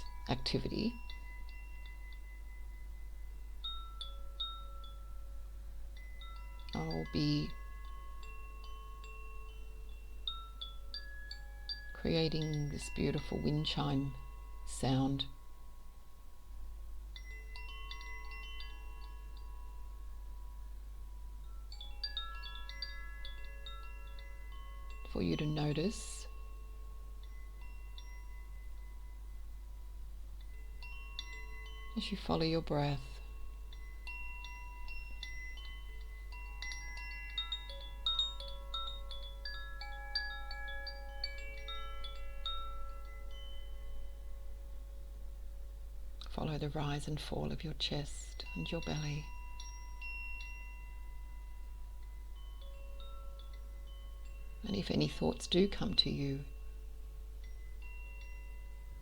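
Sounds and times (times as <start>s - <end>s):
wind chime ringing: 0.0s - 59.0s.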